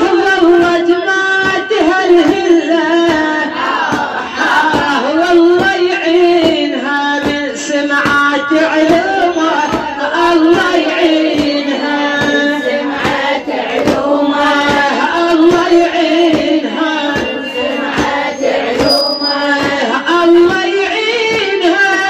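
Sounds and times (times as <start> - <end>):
rhythmic sharp beats: 0.0 - 22.0
woman chanting a lament: 0.0 - 22.0.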